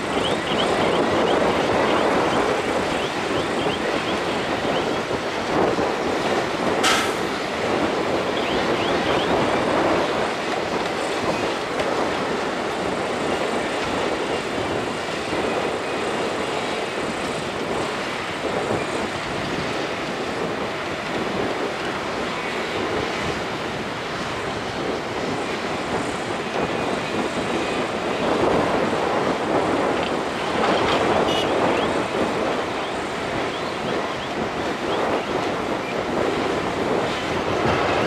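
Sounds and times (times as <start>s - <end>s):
heavy diesel machinery working: 0.0s - 38.0s.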